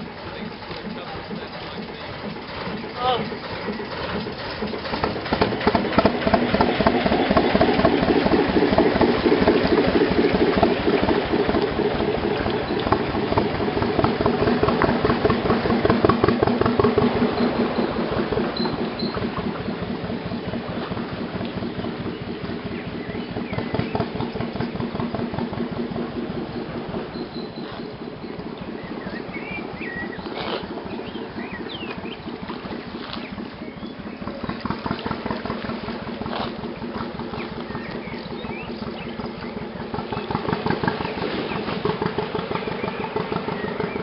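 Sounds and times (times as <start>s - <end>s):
boat engine chugging: 0.0s - 44.0s.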